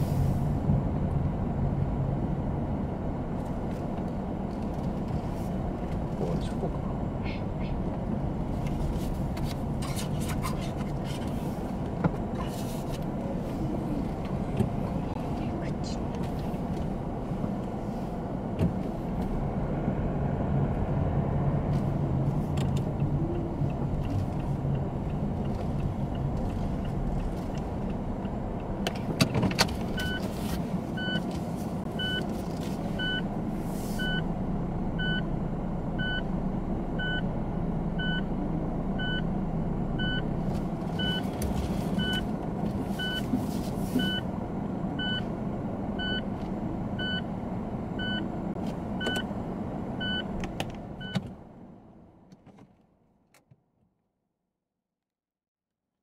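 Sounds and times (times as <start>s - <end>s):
car engine and tyre rumble: 0.0s - 54.2s.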